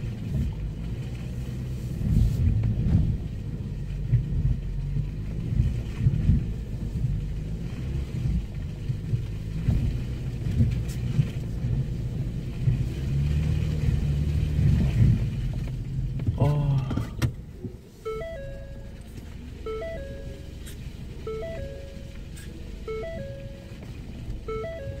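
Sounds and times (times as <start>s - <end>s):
car engine running: 0.0s - 25.0s
tyre and suspension rumble: 0.0s - 25.0s.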